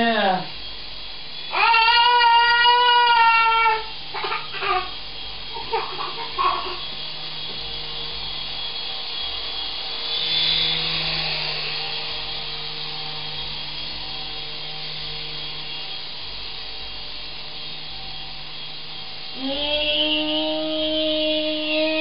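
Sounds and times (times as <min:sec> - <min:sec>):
toy helicopter rotors whirring: 0:00.0 - 0:22.0.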